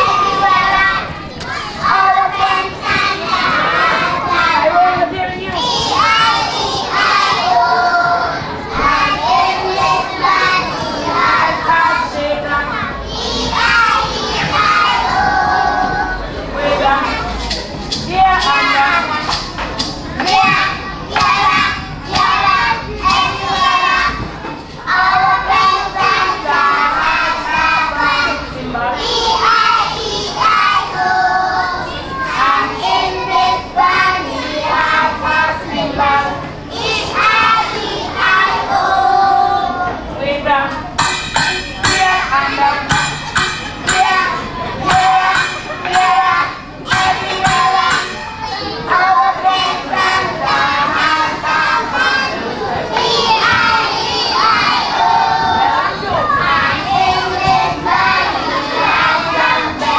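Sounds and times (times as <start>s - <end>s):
children singing together: 0.0s - 59.9s.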